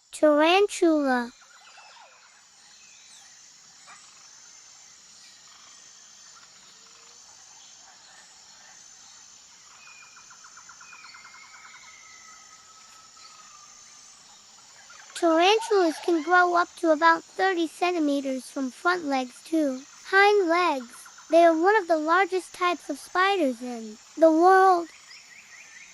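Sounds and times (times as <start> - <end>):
insect buzz: 0.0 - 25.9.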